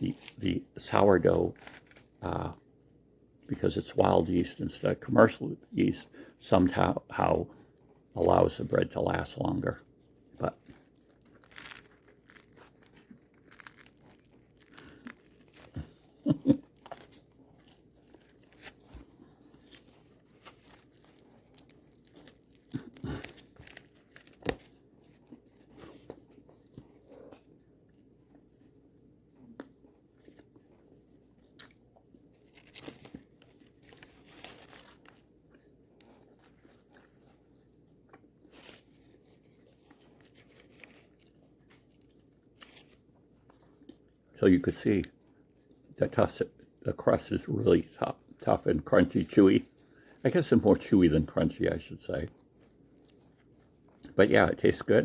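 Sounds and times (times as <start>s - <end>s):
person chewing crusty bread: 7.0s - 8.6s, 9.3s - 50.6s, 52.2s - 54.2s.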